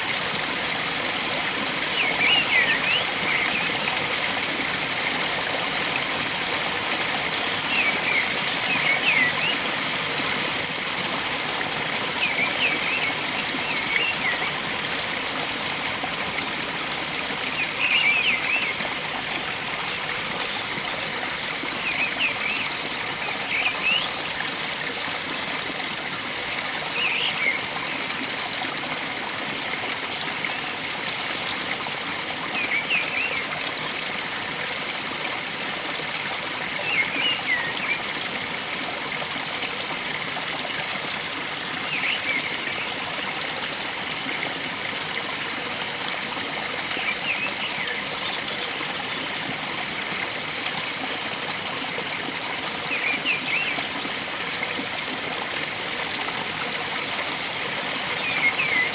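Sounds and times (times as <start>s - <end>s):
stream flowing: 0.0s - 58.9s.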